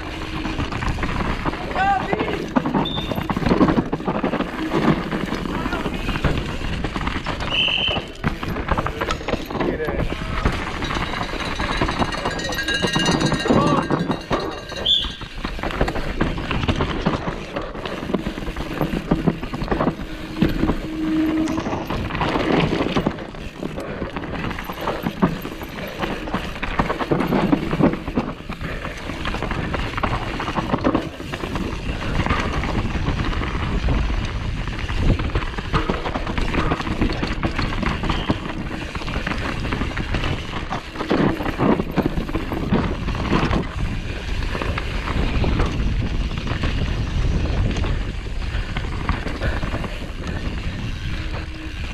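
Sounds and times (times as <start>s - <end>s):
bike rattling and knocking: 0.0s - 51.9s
tyre noise: 0.0s - 51.9s
wind rushing on microphone: 0.0s - 51.9s.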